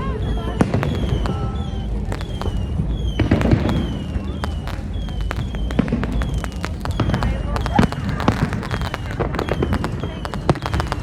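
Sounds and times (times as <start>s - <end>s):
fireworks bangs and crackles: 0.0s - 11.0s
high falling whistles: 0.0s - 11.0s
steady low rumble: 0.0s - 11.0s.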